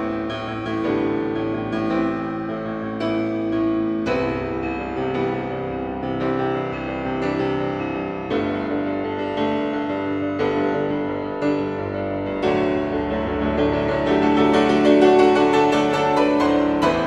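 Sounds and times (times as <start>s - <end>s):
sustained keyboard chords: 0.0s - 17.0s.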